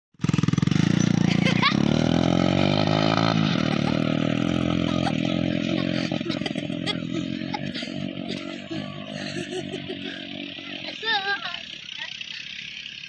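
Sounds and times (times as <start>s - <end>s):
small motorcycle engine revving: 0.2s - 13.0s.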